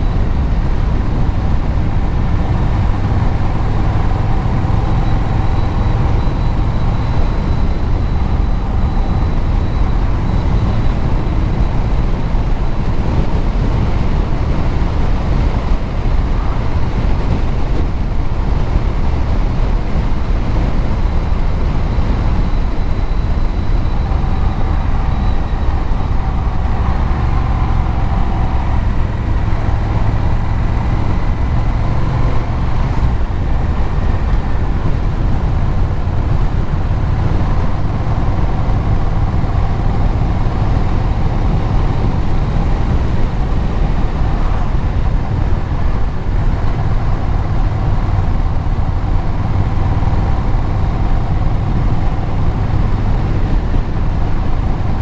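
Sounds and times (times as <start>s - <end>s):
road noise: 0.0s - 55.0s
vehicle engine and exhaust cruising: 0.0s - 55.0s.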